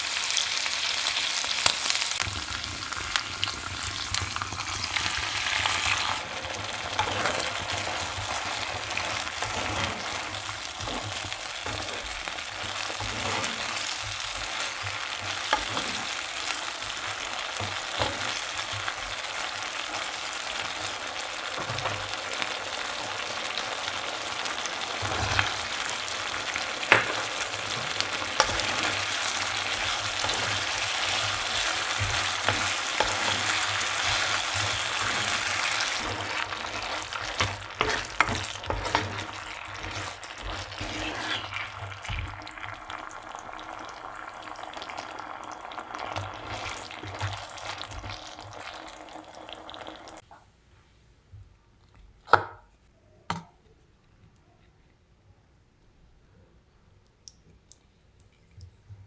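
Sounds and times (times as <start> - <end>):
chicken sizzling in a pan: 0.0 - 50.2.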